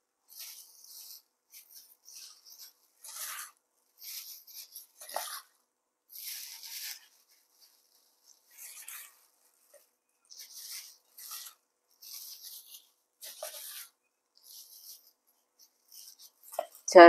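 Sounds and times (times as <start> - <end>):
gloved hand handling food in bowl: 0.2 - 16.9.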